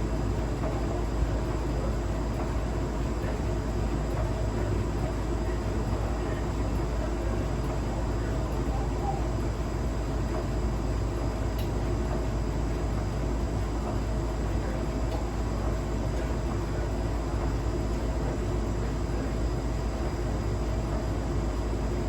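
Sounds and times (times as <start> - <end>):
appliance rumble and hum: 0.0 - 22.0.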